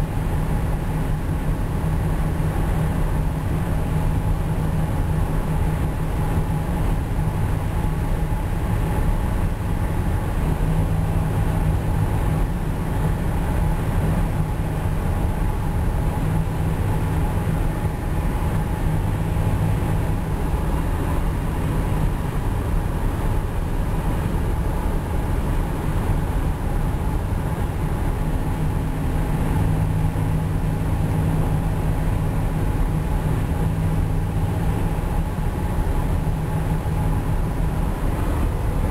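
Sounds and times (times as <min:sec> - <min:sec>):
low exhaust drone: 0:00.0 - 0:38.9
tyre road noise: 0:00.0 - 0:38.9.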